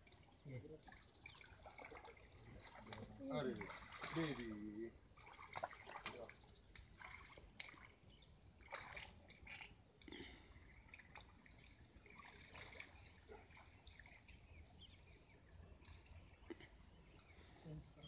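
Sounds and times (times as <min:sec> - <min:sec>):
shallow water splashing and trickling: 0:00.0 - 0:18.0
small splashes: 0:00.0 - 0:18.0.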